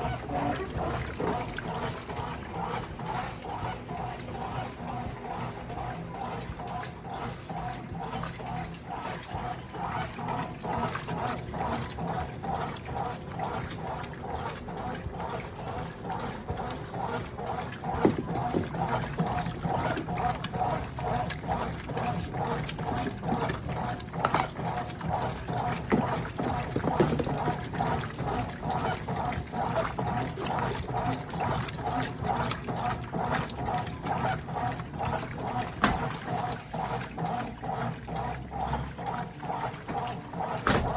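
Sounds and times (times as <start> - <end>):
washing machine agitating: 0.0 - 40.9
water sloshing: 0.0 - 40.9.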